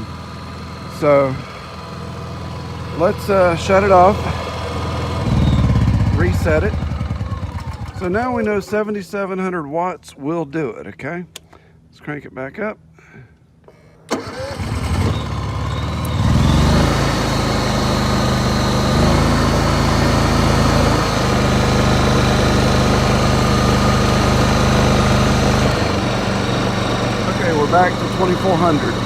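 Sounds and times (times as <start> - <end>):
generator engine starting and running: 0.0 - 9.0, 13.6 - 29.0.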